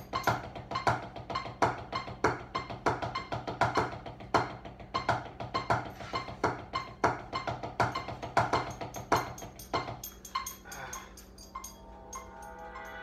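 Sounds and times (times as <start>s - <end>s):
drumsticks on a practice pad: 0.0s - 13.0s.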